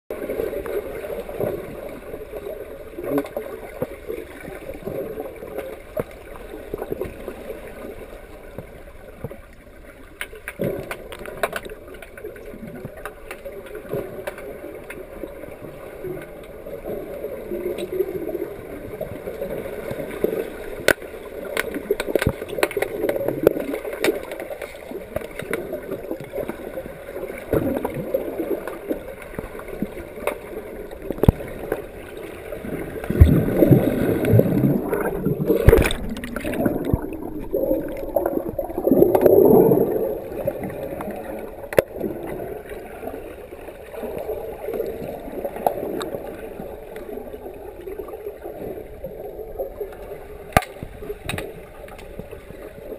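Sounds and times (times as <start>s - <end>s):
underwater rushing water and bubbles: 0.1s - 52.9s.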